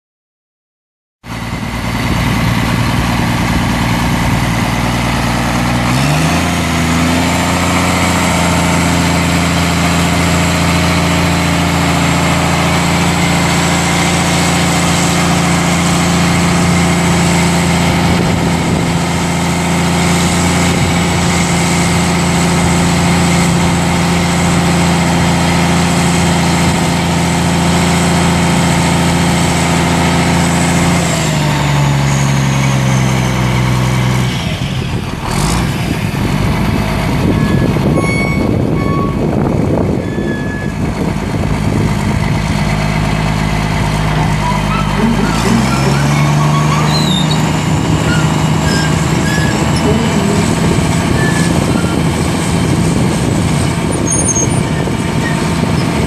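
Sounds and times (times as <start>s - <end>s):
diesel truck engine running: 1.2s - 56.0s.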